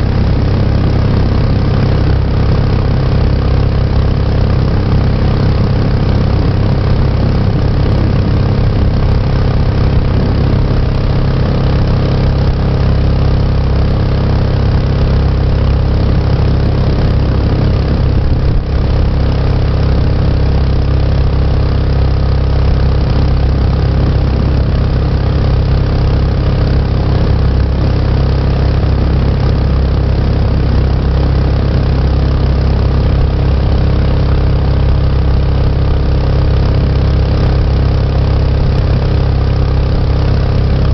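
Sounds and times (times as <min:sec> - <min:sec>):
jet boat engine humming: 0:00.0 - 0:40.9.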